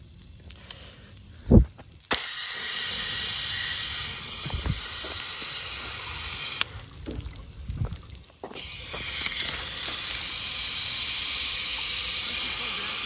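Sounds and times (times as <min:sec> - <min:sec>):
water hissing on hot metal: 0:00.0 - 0:13.0.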